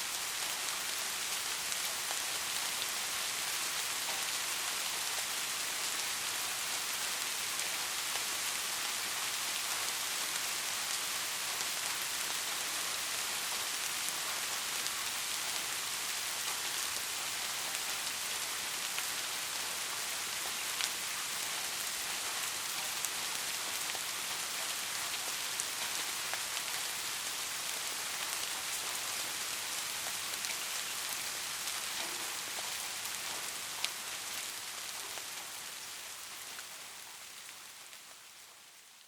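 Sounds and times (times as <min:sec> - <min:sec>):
soft rain hissing: 0:00.0 - 0:39.0.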